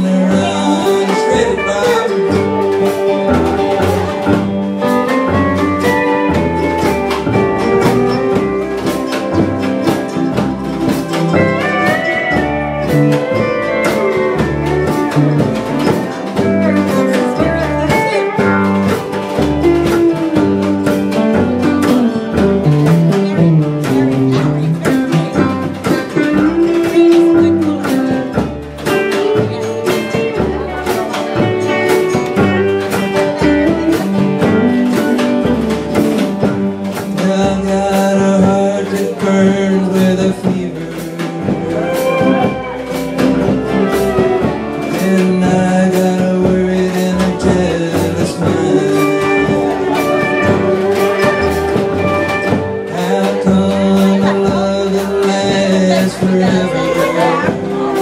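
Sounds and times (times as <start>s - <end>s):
live country band playing: 0.0s - 58.0s.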